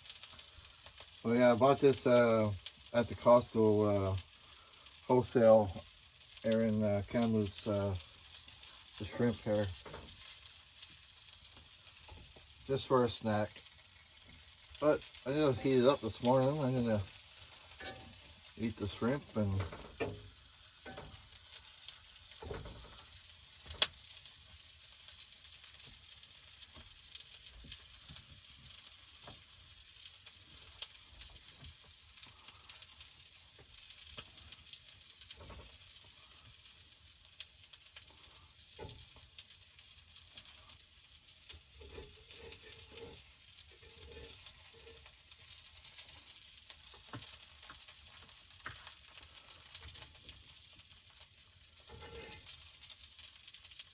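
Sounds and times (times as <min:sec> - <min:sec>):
food sizzling in a frying pan: 0:00.0 - 0:53.9.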